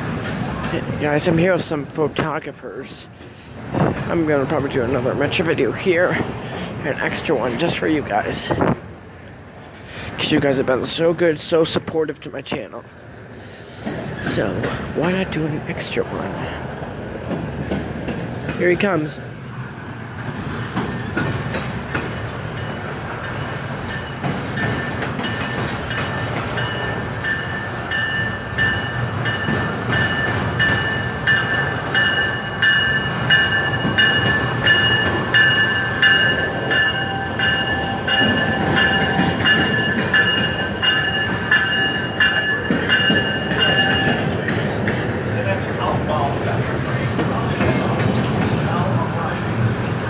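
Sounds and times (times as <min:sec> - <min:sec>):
train wheels clicking over rail joints: 0:00.0 - 0:12.7, 0:13.3 - 0:50.0
freight train rumble: 0:00.0 - 0:50.0.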